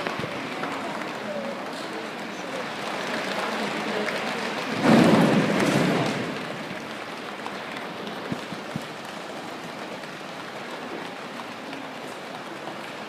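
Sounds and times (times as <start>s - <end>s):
body percussion rain-like patter: 0.0s - 13.0s.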